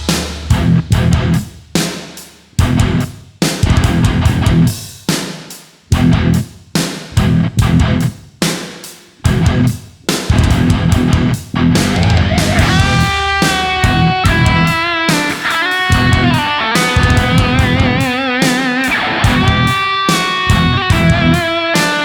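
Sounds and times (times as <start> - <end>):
rock music with electric guitar: 0.0 - 1.6, 2.6 - 4.8, 5.9 - 6.5, 7.2 - 8.3, 9.3 - 22.0.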